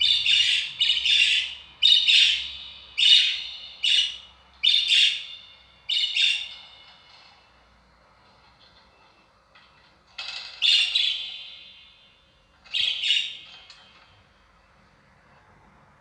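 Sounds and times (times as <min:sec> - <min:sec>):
faint bird chirping: 0:00.0 - 0:15.9.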